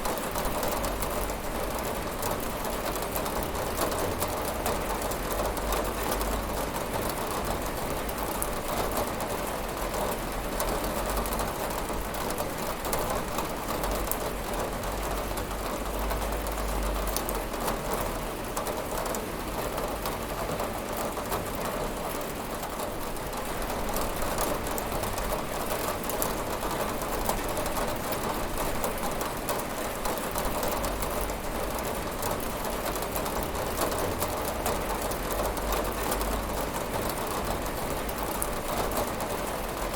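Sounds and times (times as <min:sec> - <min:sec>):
rain on window glass: 0:00.0 - 0:39.9
raindrops ticking on pane: 0:00.4 - 0:39.9.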